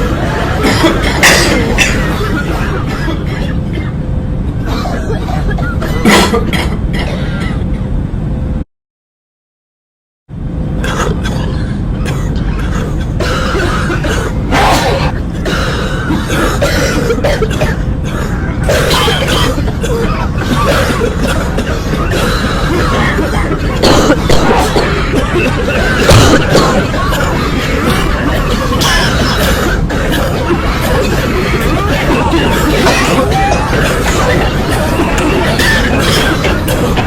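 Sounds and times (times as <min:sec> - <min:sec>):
people coughing: 0:00.0 - 0:07.8, 0:10.8 - 0:37.0
airliner cabin drone: 0:00.0 - 0:08.6, 0:10.3 - 0:37.0.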